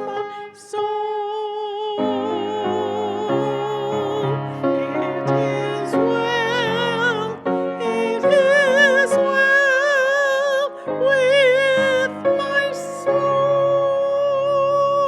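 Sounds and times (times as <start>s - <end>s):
hymn sung with vibrato: 0.0s - 15.0s
piano accompaniment: 0.0s - 15.0s.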